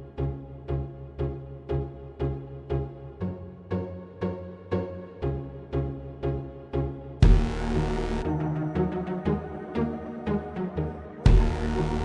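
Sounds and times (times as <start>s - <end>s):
dark dramatic synth music: 0.0s - 12.0s.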